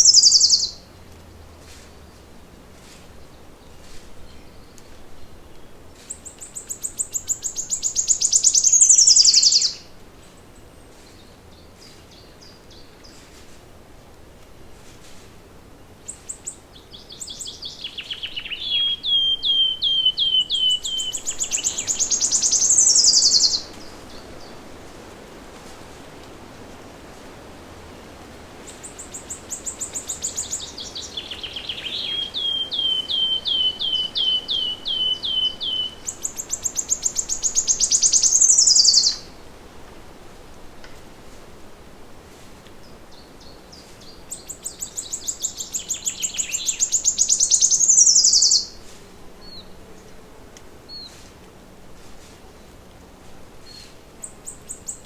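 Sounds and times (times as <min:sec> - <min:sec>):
songbird singing: 0:00.0 - 0:13.4, 0:15.7 - 0:25.5, 0:27.9 - 0:40.1, 0:42.6 - 0:51.8, 0:52.6 - 0:55.0.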